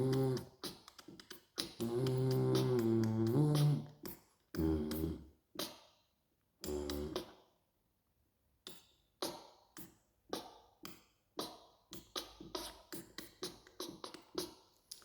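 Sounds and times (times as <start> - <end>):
beatboxing: 0.0 - 5.8, 6.6 - 7.4, 8.6 - 15.0.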